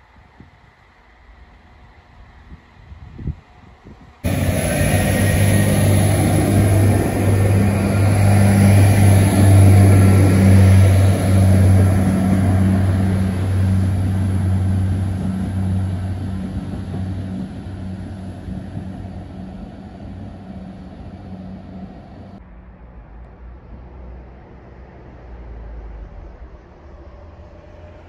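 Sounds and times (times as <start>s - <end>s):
rail noise: 0.0s - 28.0s
diesel railcar engine drone: 0.1s - 28.0s.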